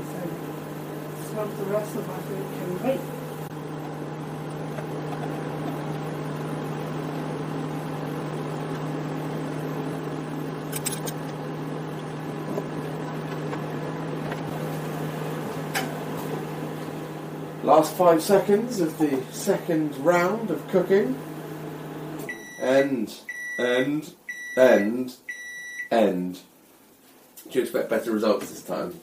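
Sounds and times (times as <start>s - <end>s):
microwave oven humming: 0.0s - 25.9s.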